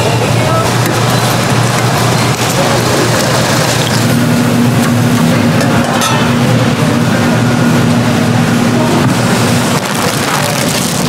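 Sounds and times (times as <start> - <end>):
low mechanical hum: 0.0 - 11.0
noisy background: 0.0 - 11.0.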